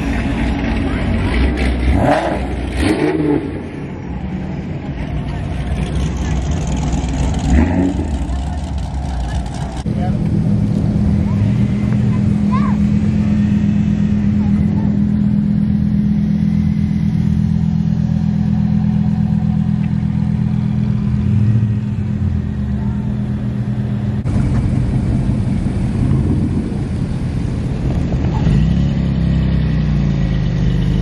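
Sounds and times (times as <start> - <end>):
car engine idling: 0.0 - 2.9, 3.5 - 31.0
engine running with wavering pitch: 0.0 - 31.0.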